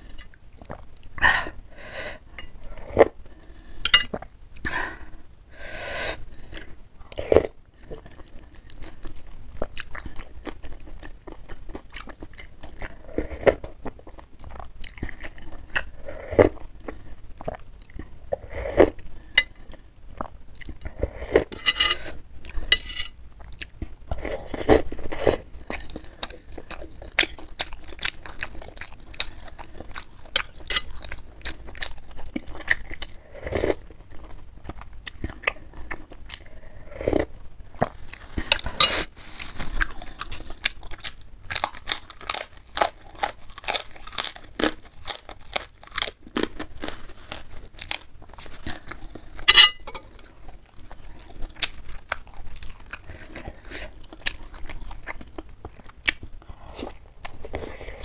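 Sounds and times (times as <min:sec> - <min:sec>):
chewing and crunching food: 0:00.0 - 0:01.3, 0:06.3 - 0:58.0.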